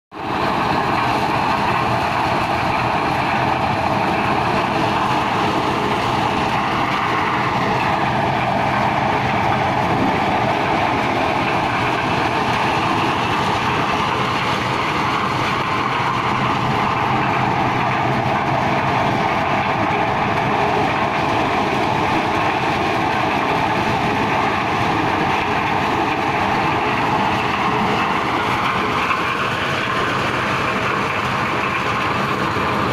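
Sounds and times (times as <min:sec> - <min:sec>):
engine low hum: 0:00.2 - 0:32.9.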